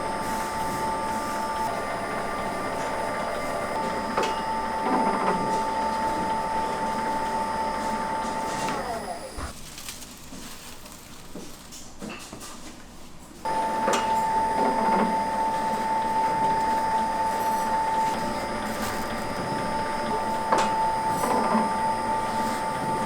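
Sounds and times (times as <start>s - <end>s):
electric motor whining: 0.0s - 9.5s, 13.5s - 23.0s.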